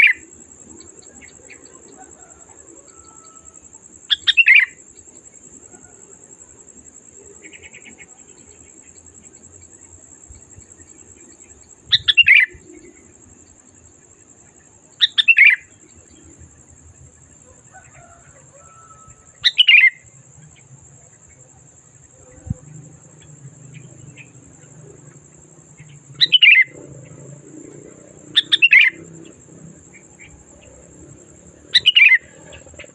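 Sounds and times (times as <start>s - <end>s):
steady high-pitched hiss: 0.0s - 32.9s.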